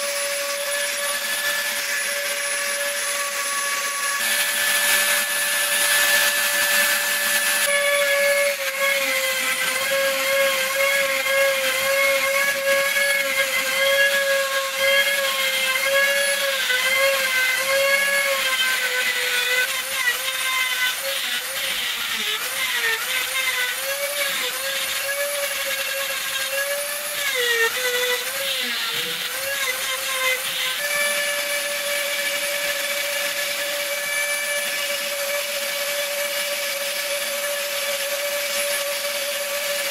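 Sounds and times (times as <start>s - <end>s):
rotary tool grinding stone: 0.0s - 39.9s.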